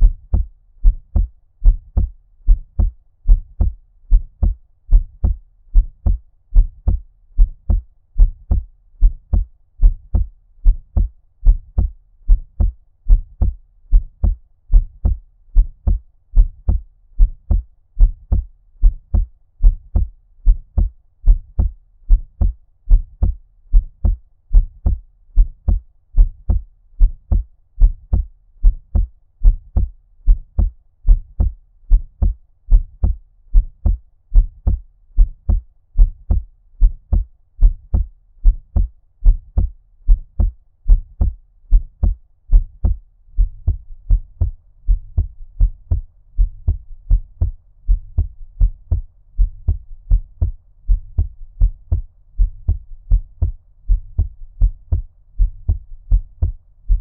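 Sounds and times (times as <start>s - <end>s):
low steady rumble: 0.0s - 57.0s
muffled heartbeat thumps: 0.0s - 57.0s.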